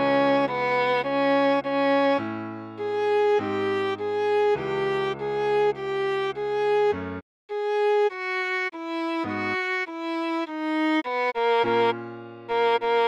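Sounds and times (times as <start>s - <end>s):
viola playing short bowed notes: 0.0s - 13.0s.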